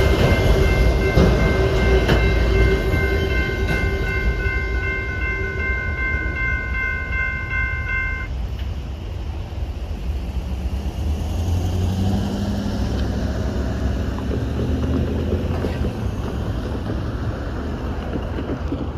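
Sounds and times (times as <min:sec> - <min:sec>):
passing train rumble: 0:00.0 - 0:18.9.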